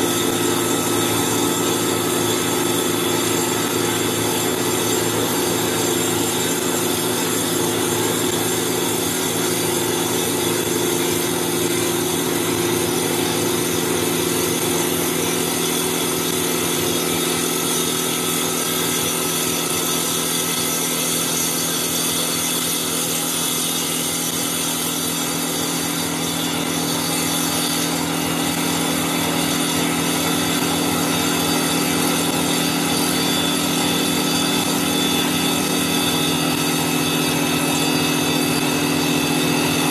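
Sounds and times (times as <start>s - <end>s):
lathe motor running: 0.0s - 39.9s
saw blade cutting wood: 0.0s - 39.9s.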